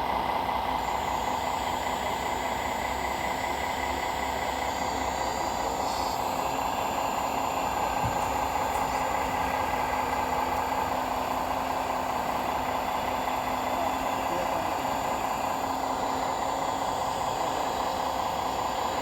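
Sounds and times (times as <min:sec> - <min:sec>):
model truck engine drone: 0:00.0 - 0:19.0.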